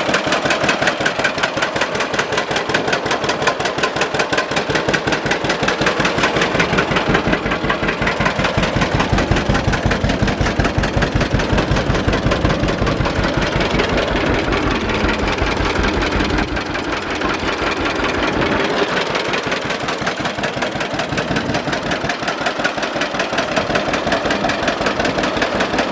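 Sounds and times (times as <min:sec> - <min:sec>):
tractor engine exhaust pops: 0:00.2 - 0:25.9.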